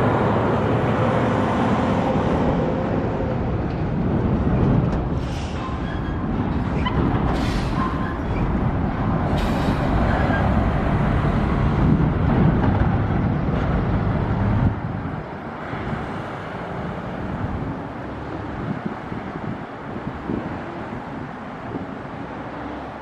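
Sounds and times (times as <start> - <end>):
traffic noise: 0.0 - 23.0.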